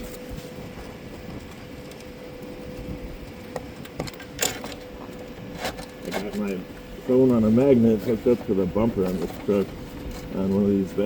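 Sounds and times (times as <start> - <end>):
machine hum with thin tone: 0.0 - 11.0.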